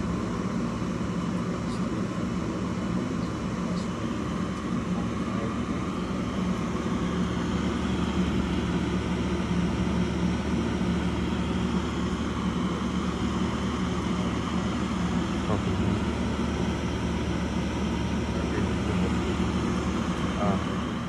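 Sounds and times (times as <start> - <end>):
gas furnace burners firing: 0.0 - 21.0
low hum: 0.0 - 21.0.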